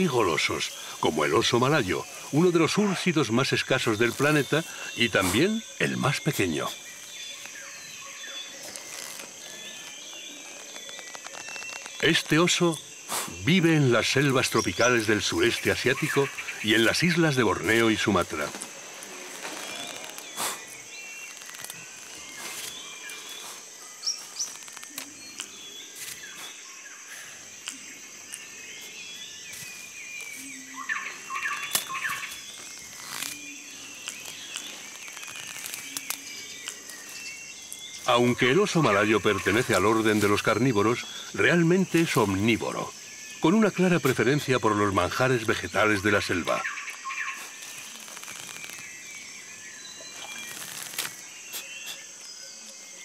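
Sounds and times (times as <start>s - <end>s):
bird calls: 0.0s - 53.0s
chirping calls: 0.0s - 53.0s
high-pitched insect drone: 0.0s - 53.0s.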